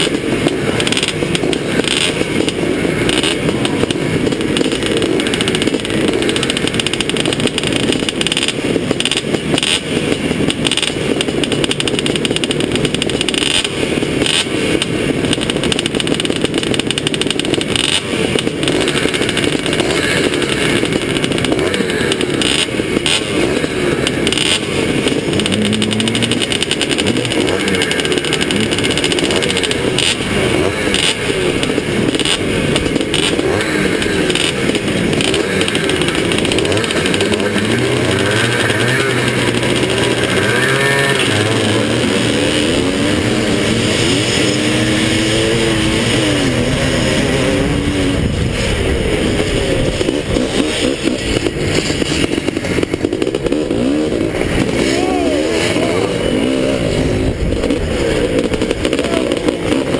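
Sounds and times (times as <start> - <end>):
motorbike engine revving: 0.0 - 59.9
motorbikes idling: 0.0 - 59.9.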